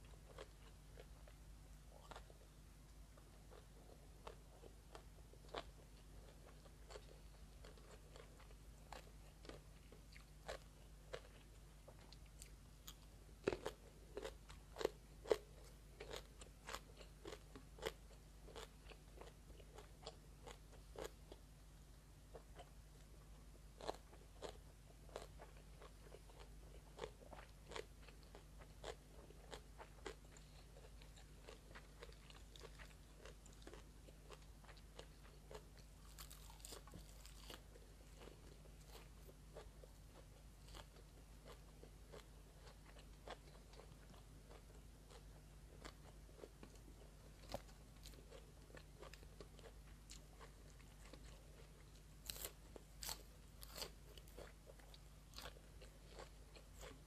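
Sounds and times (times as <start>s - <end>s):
person chewing and crunching: 0.0s - 2.6s, 3.2s - 21.5s, 22.3s - 57.0s
faint steady hum: 0.0s - 57.0s.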